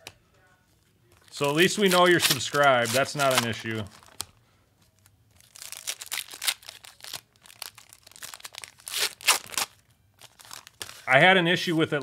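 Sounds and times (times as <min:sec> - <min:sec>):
packaging crinkling and tearing: 0:01.2 - 0:11.1.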